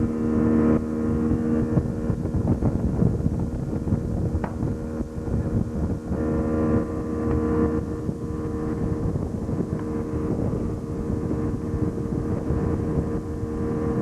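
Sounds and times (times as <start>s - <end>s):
boat motor humming: 0.0s - 14.0s
rushing wind and water: 0.0s - 14.0s.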